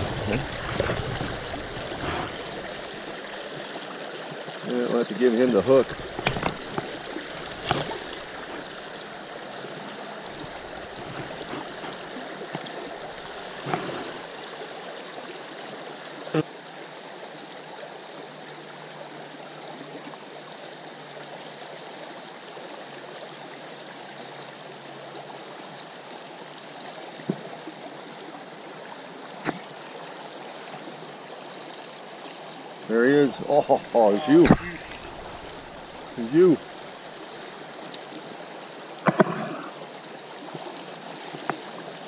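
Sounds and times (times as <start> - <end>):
creek water running: 0.0 - 42.0.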